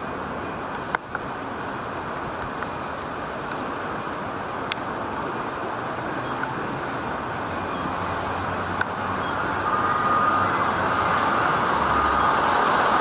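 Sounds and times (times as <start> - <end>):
tyres on wet street: 0.0 - 13.0.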